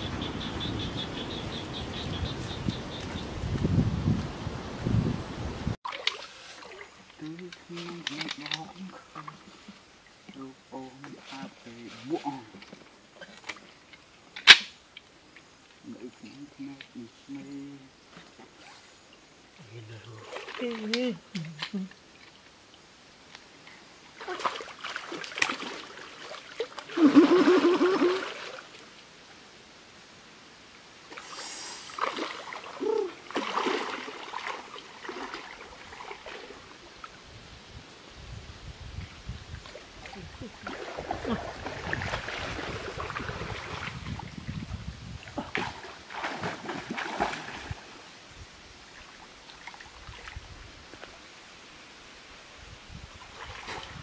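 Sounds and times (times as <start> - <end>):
river water splashing and gurgling: 0.0 - 30.0, 30.8 - 37.4, 39.0 - 54.0.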